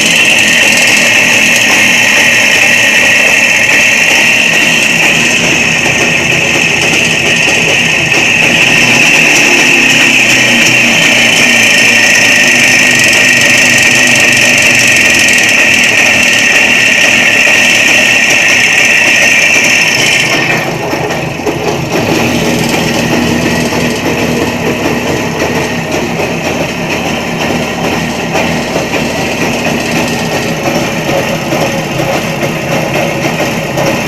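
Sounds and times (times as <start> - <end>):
motorcycle engine revving high: 0.0 - 34.0.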